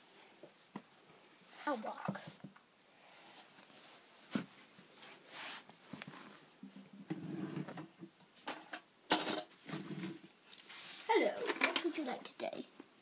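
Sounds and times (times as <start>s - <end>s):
rustling: 0.0s - 8.4s, 9.4s - 13.0s.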